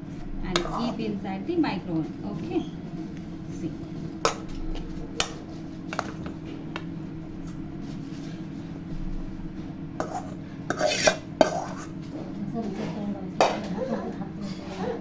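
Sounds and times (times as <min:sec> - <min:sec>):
microwave oven fan humming: 0:00.0 - 0:15.0.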